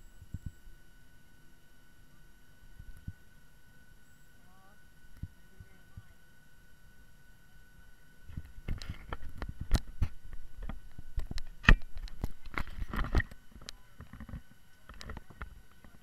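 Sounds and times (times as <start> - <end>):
faint electronic whine: 0.0 - 16.0.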